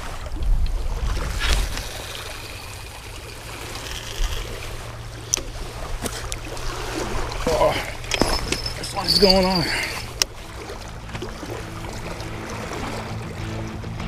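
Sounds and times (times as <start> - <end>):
lake waves lapping on rocks: 0.0 - 13.9.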